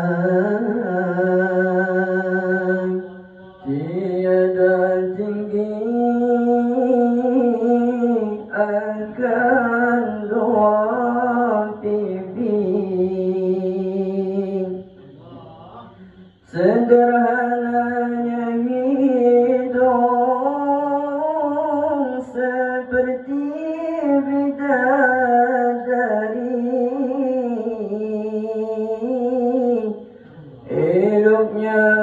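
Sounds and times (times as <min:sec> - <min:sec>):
man chanting through a microphone: 0:00.0 - 0:32.0.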